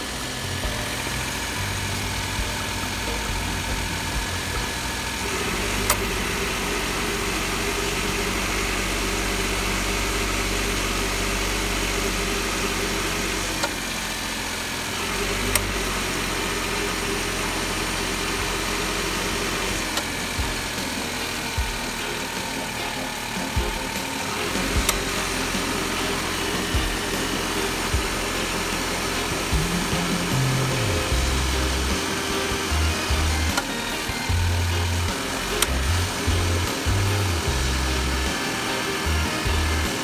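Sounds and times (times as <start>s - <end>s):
truck engine idling: 0.0s - 40.0s.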